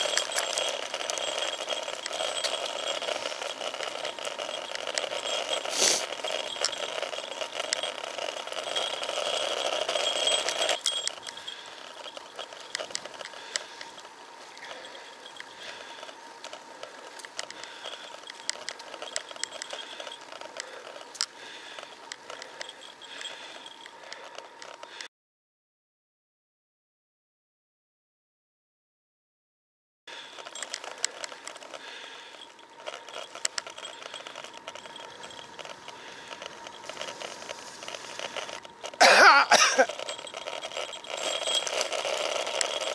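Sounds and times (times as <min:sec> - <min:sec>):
bicycle ticking and rattling: 0:00.0 - 0:25.1, 0:30.1 - 0:42.9.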